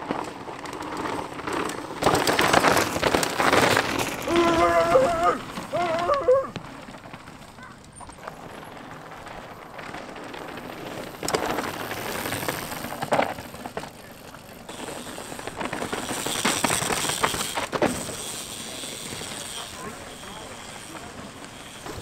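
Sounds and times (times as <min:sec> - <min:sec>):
bikes rattling and knocking: 0:00.0 - 0:22.0.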